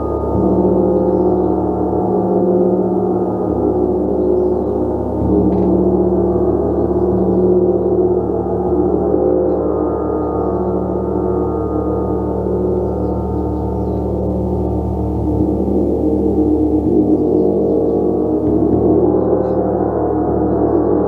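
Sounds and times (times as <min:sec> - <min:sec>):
gong ringing: 0:00.0 - 0:20.6.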